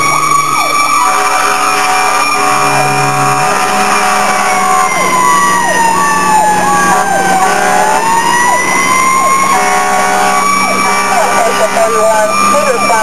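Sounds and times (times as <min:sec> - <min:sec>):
fire engine siren wailing: 0:00.0 - 0:13.0
truck engine running: 0:00.0 - 0:13.0.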